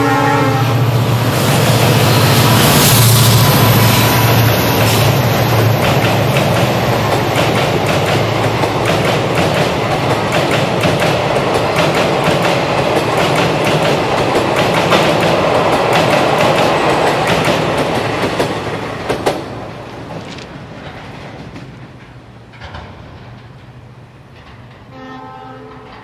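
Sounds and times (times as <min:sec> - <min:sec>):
diesel locomotive engine drone: 0:00.0 - 0:26.0
train wheels clacking over rail joints: 0:01.4 - 0:26.0.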